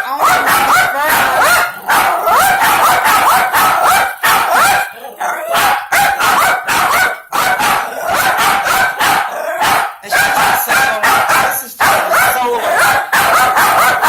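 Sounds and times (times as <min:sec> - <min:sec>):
little dog barking: 0:00.0 - 0:14.0.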